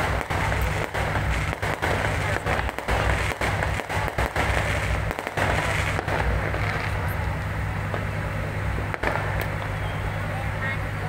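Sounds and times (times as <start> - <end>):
fireworks bangs and crackle: 0.0 - 10.3.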